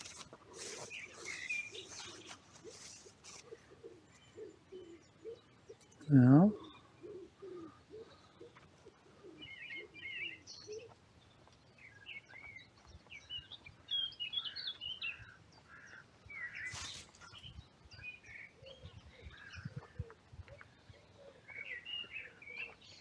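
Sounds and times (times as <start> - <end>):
birds chirping and twittering: 0.0 - 23.0
low repeated bird notes: 0.6 - 23.0.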